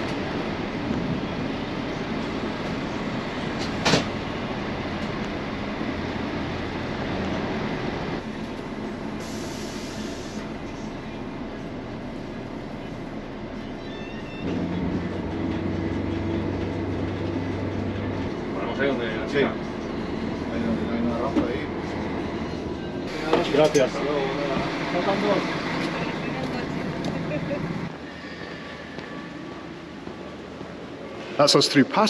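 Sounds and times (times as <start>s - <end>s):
vehicle rumbling: 0.0s - 31.4s.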